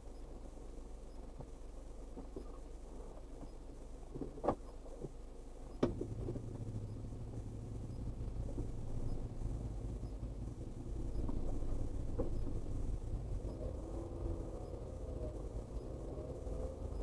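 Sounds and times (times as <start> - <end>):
car engine hum inside cabin: 0.0 - 17.0.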